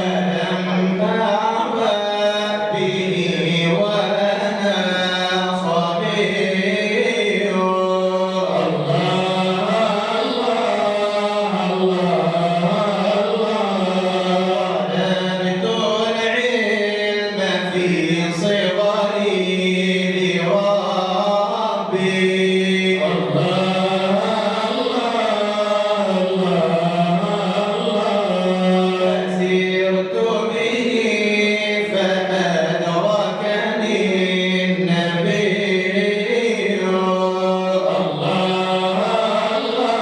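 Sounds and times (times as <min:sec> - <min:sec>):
unaccompanied devotional chanting: 0:00.0 - 0:40.0.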